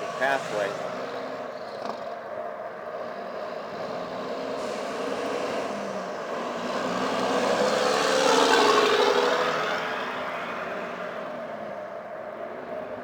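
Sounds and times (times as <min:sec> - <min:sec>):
vehicle approaching: 0:00.0 - 0:13.0.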